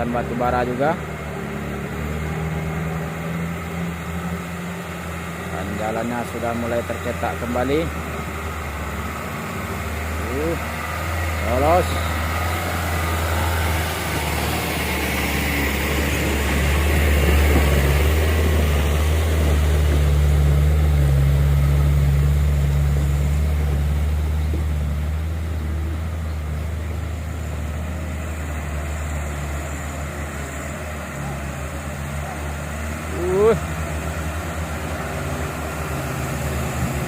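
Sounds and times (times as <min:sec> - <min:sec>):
diesel truck engine under load: 0:00.0 - 0:37.0.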